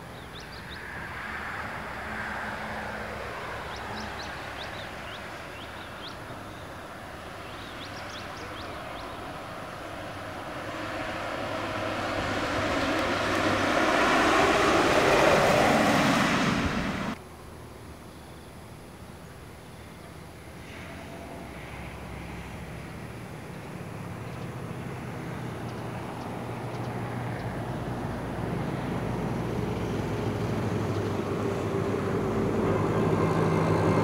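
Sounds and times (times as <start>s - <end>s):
coach passing by: 0.0s - 17.2s, 20.7s - 34.0s.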